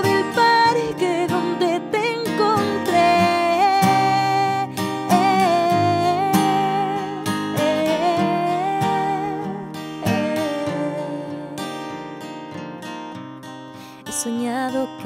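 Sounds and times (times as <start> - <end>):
woman singing pop ballad: 0.0 - 12.2, 14.0 - 15.0
strummed acoustic guitar: 0.0 - 15.0.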